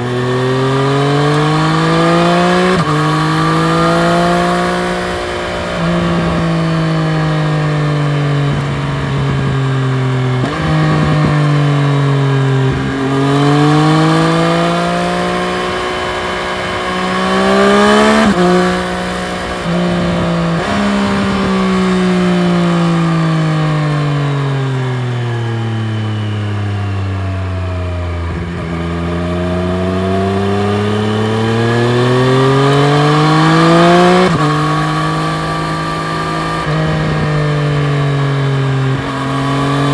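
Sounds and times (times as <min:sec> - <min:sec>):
gear changes: 0:00.0 - 0:39.9
motorcycle engine revving: 0:00.0 - 0:39.9.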